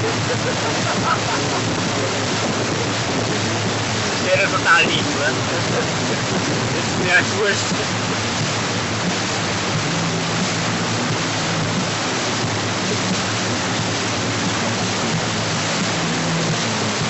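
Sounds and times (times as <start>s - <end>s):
boat engine humming low: 0.0s - 17.0s
churning wake water: 0.0s - 17.0s
rush of wind: 0.0s - 17.0s.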